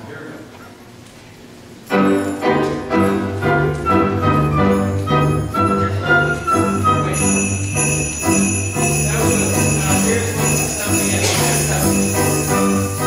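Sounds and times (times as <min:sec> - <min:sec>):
jingle bells shaken: 0:01.9 - 0:13.0
piano accompaniment: 0:01.9 - 0:13.0.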